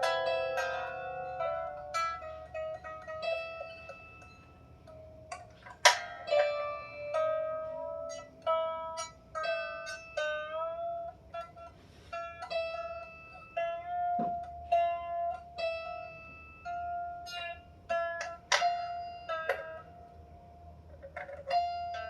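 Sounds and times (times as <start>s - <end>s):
harp string plucked: 0.0s - 11.6s, 12.2s - 20.2s.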